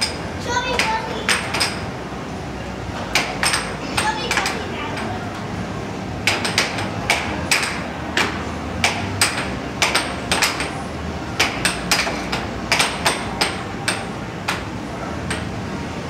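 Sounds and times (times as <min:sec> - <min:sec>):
air hockey puck clacking: 0:00.0 - 0:01.9, 0:03.0 - 0:05.4, 0:06.2 - 0:15.5.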